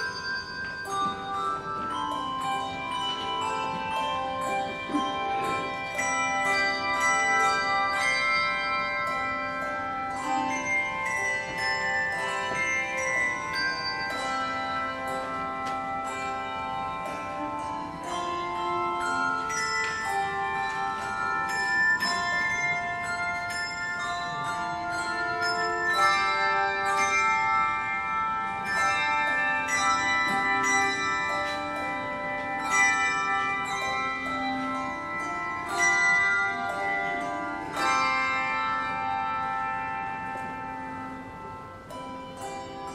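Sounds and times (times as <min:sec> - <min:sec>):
handbell choir ringing: 0:00.0 - 0:42.9.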